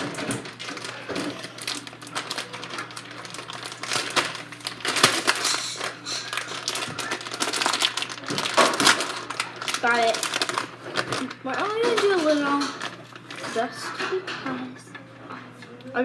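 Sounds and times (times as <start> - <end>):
plastic wrapper crinkling: 0.0 - 13.9.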